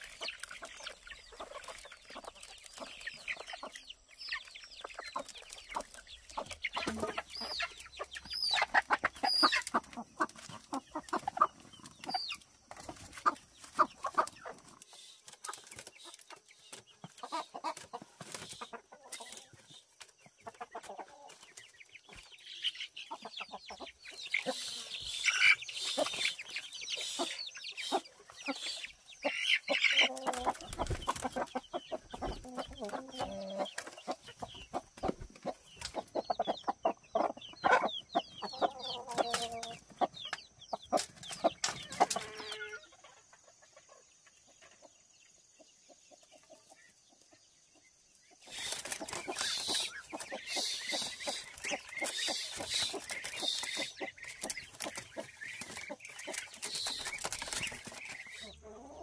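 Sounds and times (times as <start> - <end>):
bamboo cages rustling and clicking: 0.0 - 37.8, 38.9 - 42.7, 48.4 - 59.0
chickens clucking and squawking: 0.0 - 59.0.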